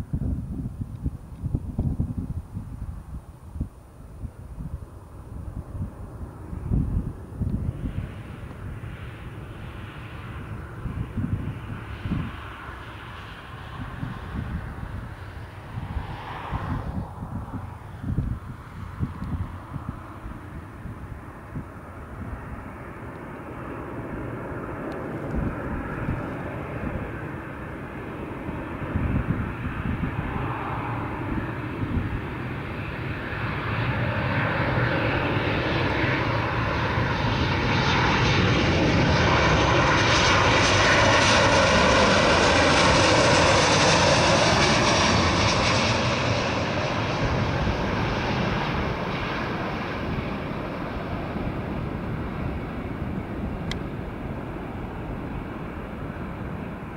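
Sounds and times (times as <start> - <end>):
jet plane rumble: 0.0 - 56.9.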